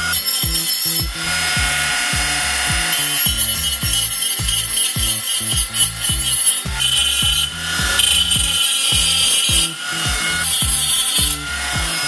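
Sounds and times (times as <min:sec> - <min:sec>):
angle grinder cutting steel: 0:00.0 - 0:12.0
background music with beat: 0:00.0 - 0:12.0.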